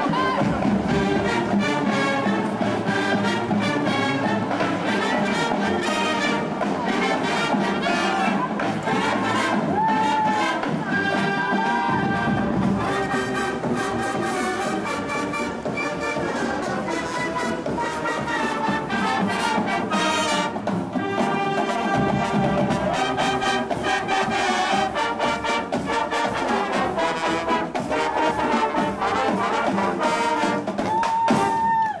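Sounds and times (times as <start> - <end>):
brass marching band playing: 0.0 - 32.0.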